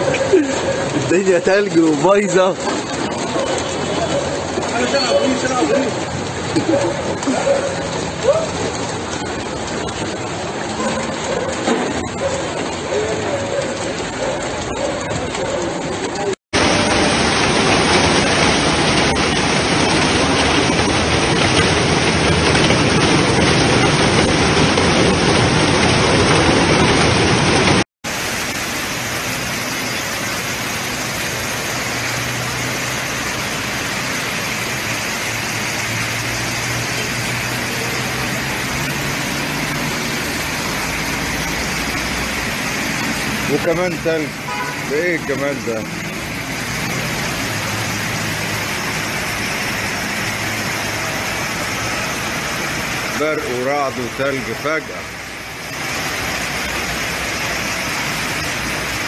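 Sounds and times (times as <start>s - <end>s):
hail and rain pelting down: 0.0s - 59.0s.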